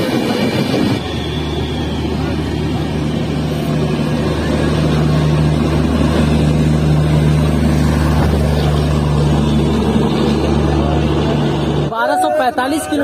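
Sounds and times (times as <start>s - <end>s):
low even drone: 0.0s - 12.0s
train coaches rumbling past: 0.0s - 13.0s.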